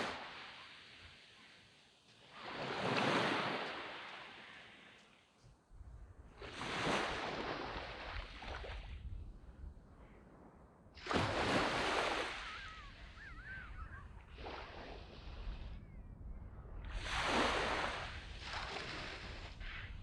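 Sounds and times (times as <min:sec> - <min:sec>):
sea waves breaking on a beach: 0:00.0 - 0:05.4, 0:06.3 - 0:10.2, 0:10.9 - 0:15.9, 0:16.7 - 0:20.0.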